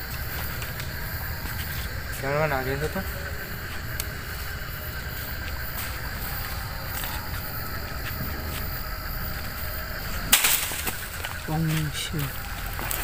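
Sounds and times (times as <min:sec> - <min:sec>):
crickets chirring: 0:00.0 - 0:13.0
loud crackle: 0:00.0 - 0:13.0.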